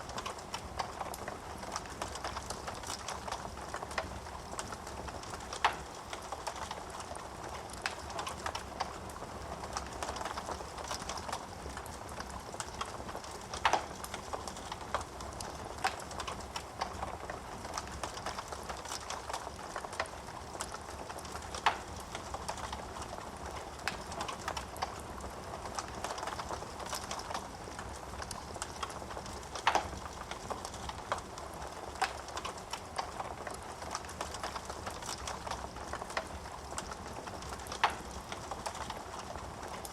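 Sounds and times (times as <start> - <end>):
burning wood snapping: 0.1 - 9.0, 9.7 - 25.0, 25.7 - 39.8.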